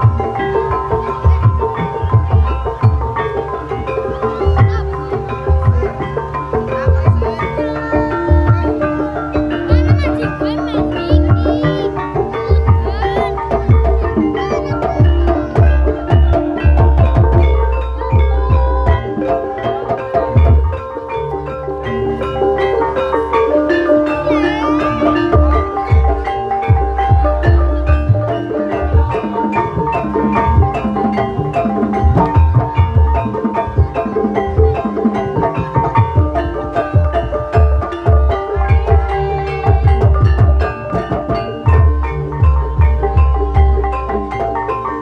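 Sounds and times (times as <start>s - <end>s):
bronze metallophones struck rapidly: 0.0s - 45.0s
drum strokes: 0.0s - 45.0s.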